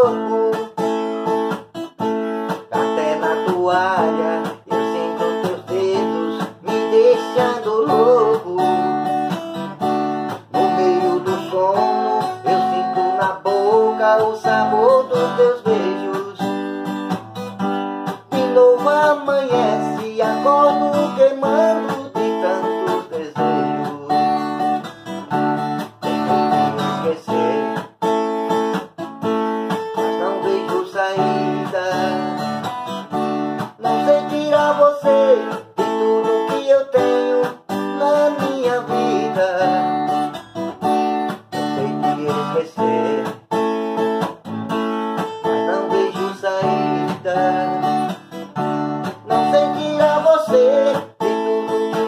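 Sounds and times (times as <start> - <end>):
man singing: 0.0 - 1.5, 2.5 - 16.9, 18.1 - 24.9, 26.0 - 28.0, 29.9 - 32.9, 33.6 - 40.8, 41.5 - 44.3, 45.3 - 52.0
acoustic guitar strumming: 0.0 - 52.0.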